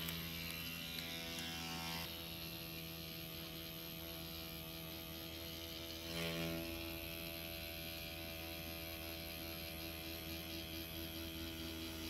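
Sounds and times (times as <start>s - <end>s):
tattoo machine humming: 0.0s - 12.0s.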